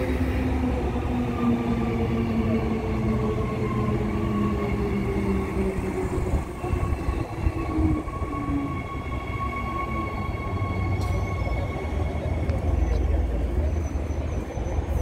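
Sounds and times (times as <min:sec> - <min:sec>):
electric train whine: 0:00.0 - 0:15.0
train wheels rumbling on rails: 0:00.0 - 0:15.0.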